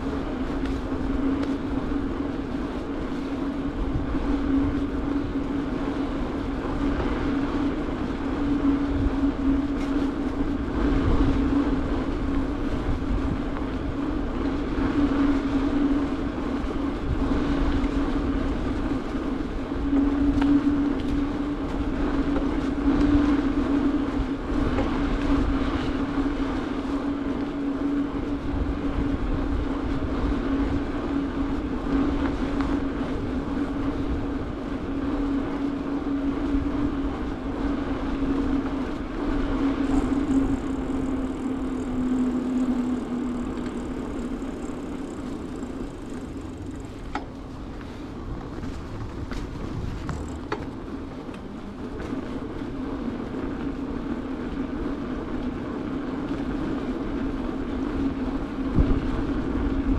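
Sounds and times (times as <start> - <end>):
bicycle tyres rumbling on asphalt: 0.0 - 59.9
wind on microphone: 0.0 - 59.9.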